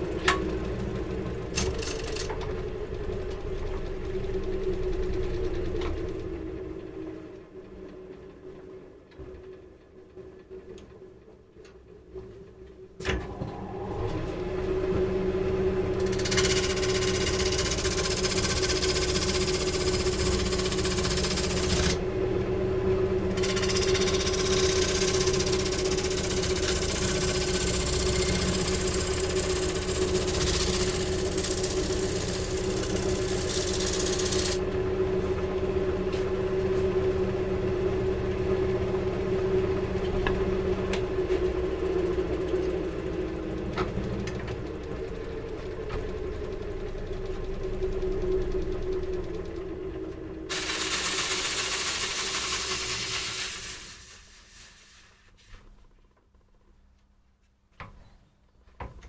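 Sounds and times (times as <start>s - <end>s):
woodworking machine motor humming: 0.0s - 11.3s, 12.2s - 55.0s.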